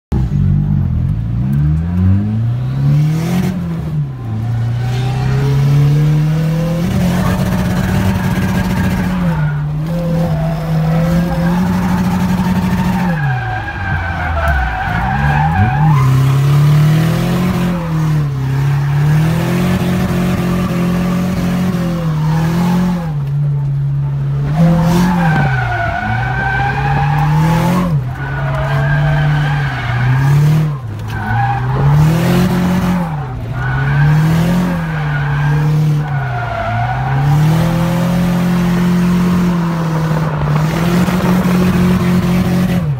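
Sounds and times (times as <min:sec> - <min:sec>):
car engine revving: 0:00.1 - 0:42.9
tires squealing: 0:02.7 - 0:42.9.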